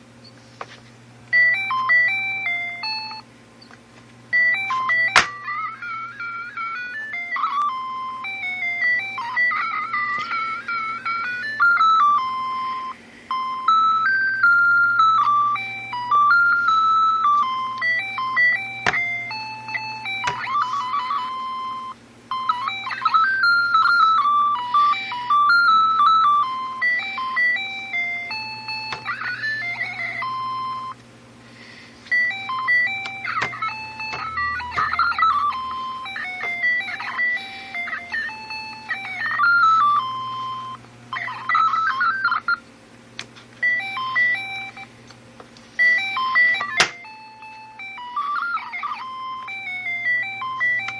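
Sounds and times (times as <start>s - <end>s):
alarm clock beeping erratic melody: 1.3s - 3.3s, 4.3s - 31.0s, 31.7s - 42.6s, 43.6s - 44.9s, 45.8s - 50.9s.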